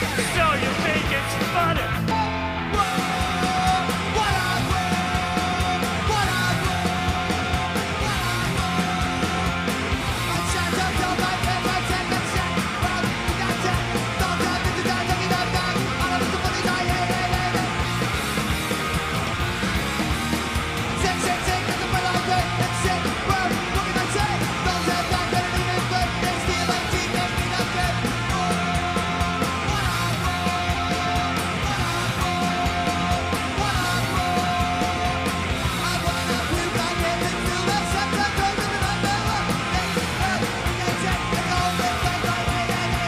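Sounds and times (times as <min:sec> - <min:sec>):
vocals: 0:00.0 - 0:18.8, 0:20.1 - 0:43.0
drum beat: 0:00.0 - 0:43.0
guitar: 0:00.0 - 0:43.0.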